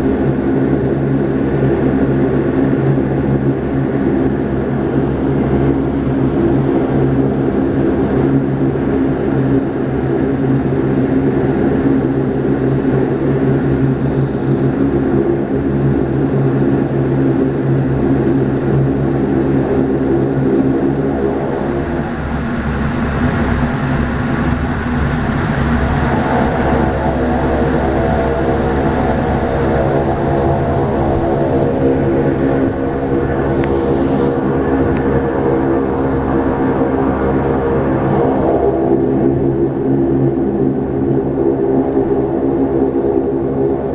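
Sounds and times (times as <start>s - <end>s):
turboprop cabin drone: 0.0s - 43.9s.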